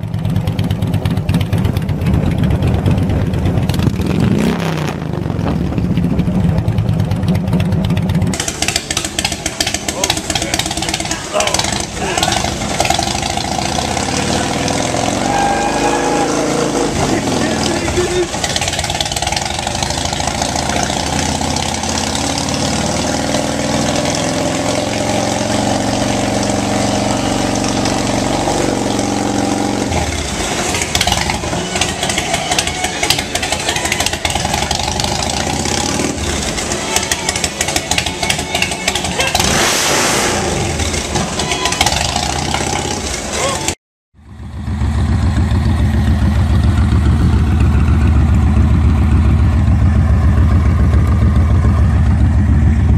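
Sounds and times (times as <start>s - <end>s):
deeper motorcycle engine: 0.0s - 52.9s
motorcycle engine running: 0.0s - 52.9s.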